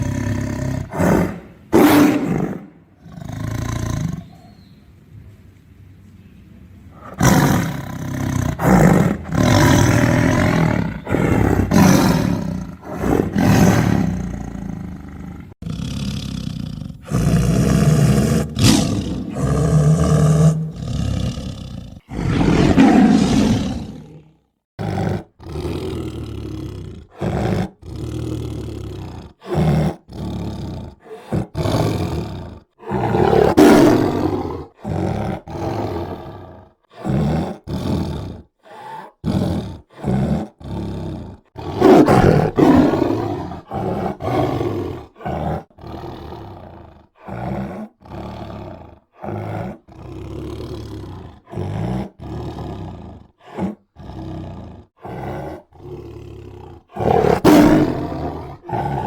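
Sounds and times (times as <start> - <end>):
tiger roaring and growling: 0.0 - 4.5, 7.0 - 59.0.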